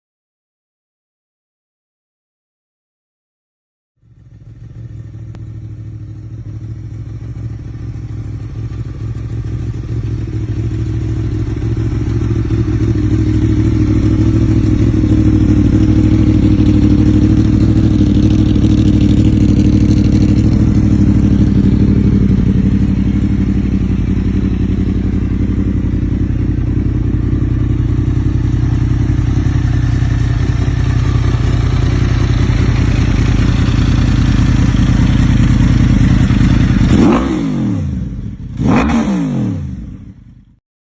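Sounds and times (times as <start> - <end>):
motorcycle engine idling: 4.0 - 38.8, 39.8 - 40.6.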